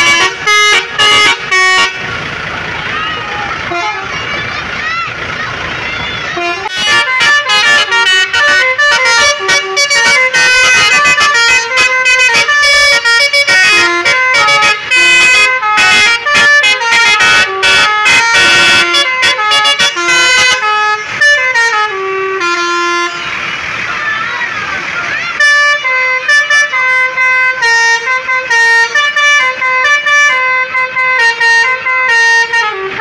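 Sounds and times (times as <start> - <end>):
bus air horn playing a tune: 0.0 - 4.4, 6.2 - 23.8, 24.8 - 33.0.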